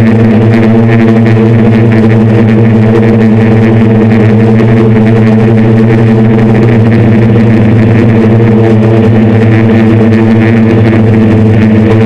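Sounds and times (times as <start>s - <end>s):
drone motors humming: 0.0s - 12.0s.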